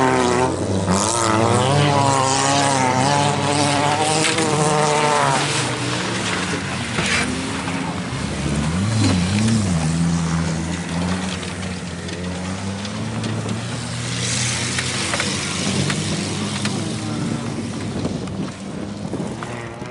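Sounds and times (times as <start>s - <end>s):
race car engines revving: 0.0s - 19.9s
scattered clicks and knocks: 2.7s - 19.9s.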